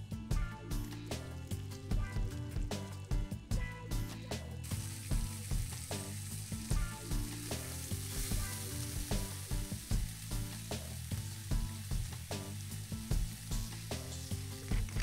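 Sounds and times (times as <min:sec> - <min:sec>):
music with steady beat: 0:00.0 - 0:15.0
oil sizzling in skillet: 0:00.6 - 0:15.0.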